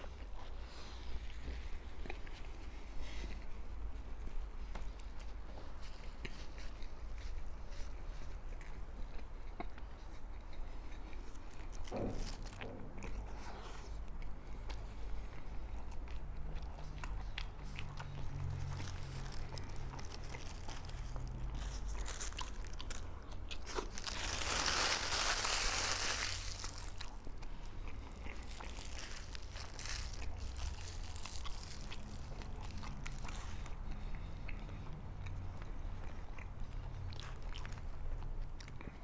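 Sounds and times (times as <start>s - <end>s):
crunchy food chewing: 0.0s - 39.0s.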